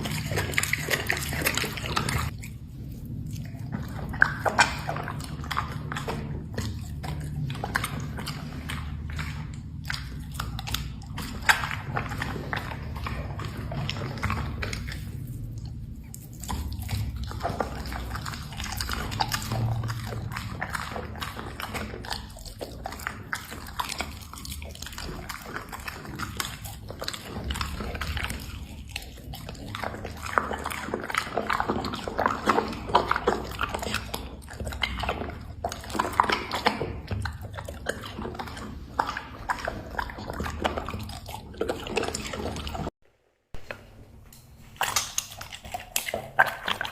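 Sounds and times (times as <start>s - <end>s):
dog chewing food: 0.0s - 43.9s, 44.6s - 46.9s.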